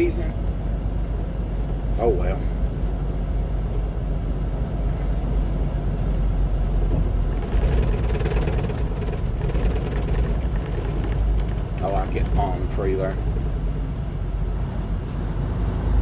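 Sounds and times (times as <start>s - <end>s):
diesel truck engine drone: 0.0s - 16.0s
road noise: 0.0s - 16.0s.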